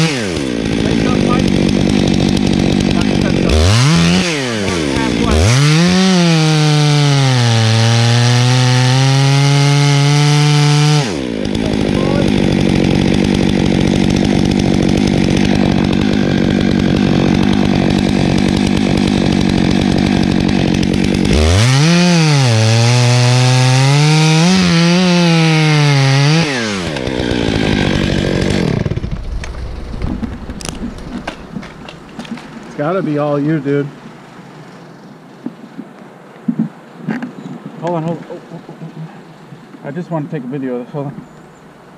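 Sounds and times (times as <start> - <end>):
chainsaw revving into wood: 0.0 - 33.9.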